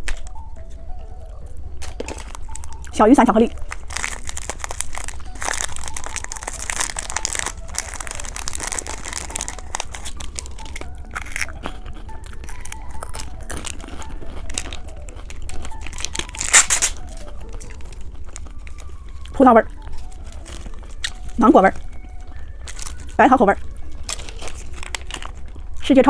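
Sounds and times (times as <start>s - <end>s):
plastic wrappers crinkling: 0.0s - 25.9s.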